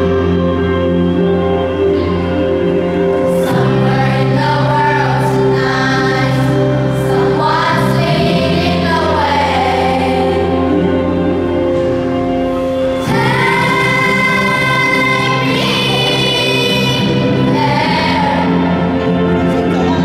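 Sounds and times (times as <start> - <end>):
instrumental accompaniment: 0.0 - 20.0
children's choir singing: 1.9 - 12.1, 12.9 - 19.8.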